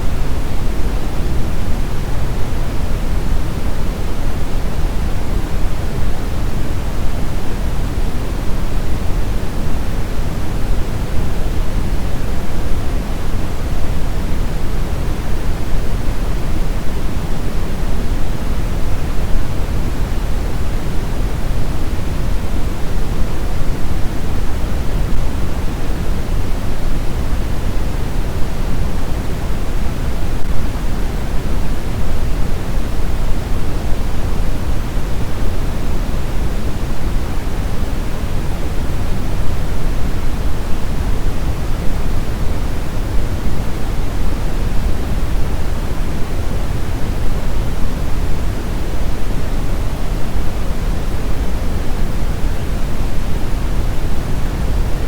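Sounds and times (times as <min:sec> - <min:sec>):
brown noise: 0:00.0 - 0:55.0.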